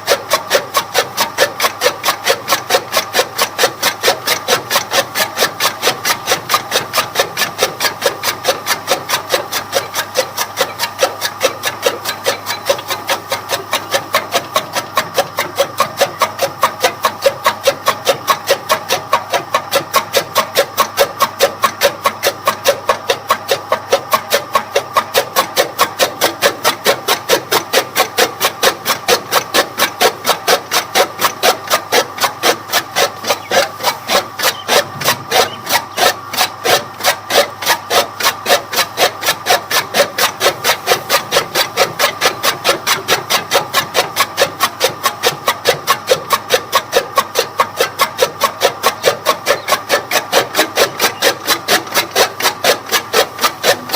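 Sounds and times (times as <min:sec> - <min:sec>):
chaff cutter blades chopping: 0:00.0 - 0:53.9.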